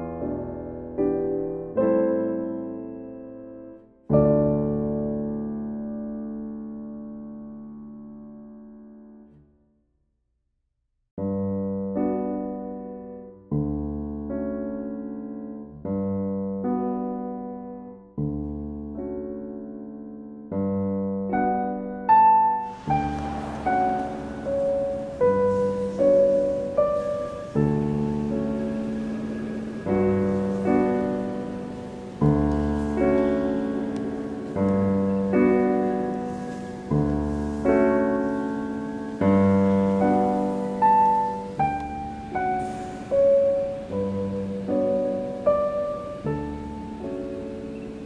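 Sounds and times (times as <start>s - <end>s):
slow solo piano: 0.0s - 9.5s, 11.2s - 48.0s.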